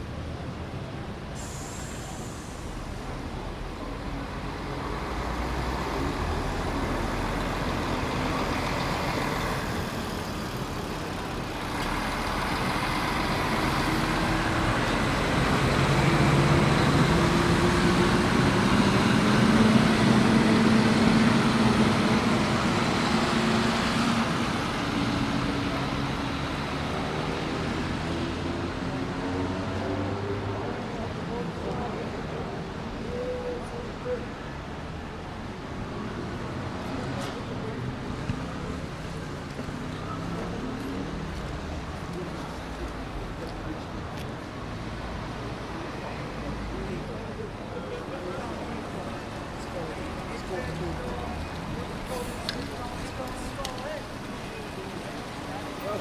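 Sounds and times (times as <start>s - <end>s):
bus engine pulling away: 0.0s - 56.0s
buses running past: 0.0s - 56.0s
traffic noise: 0.0s - 56.0s.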